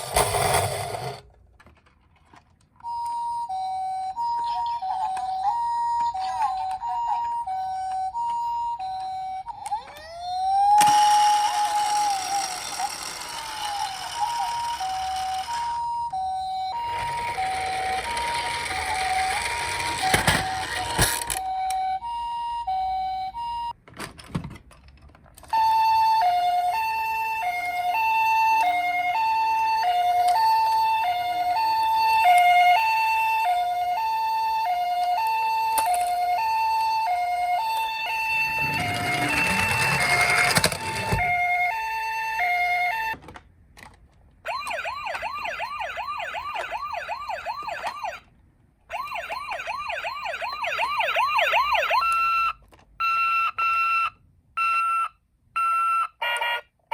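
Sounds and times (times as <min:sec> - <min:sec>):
toy electronic siren: 0:02.8 - 0:23.8, 0:25.4 - 0:43.2, 0:44.4 - 0:48.3, 0:48.9 - 0:56.7.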